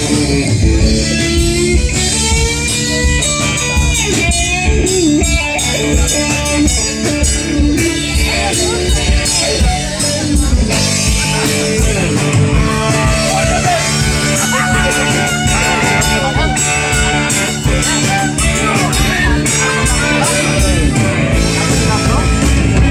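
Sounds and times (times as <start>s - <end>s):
electric guitar: 0.0s - 22.9s
live rock band playing: 0.0s - 22.9s.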